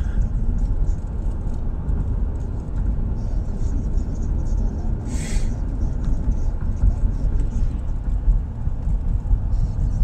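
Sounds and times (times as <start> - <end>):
car road rumble: 0.0 - 10.0.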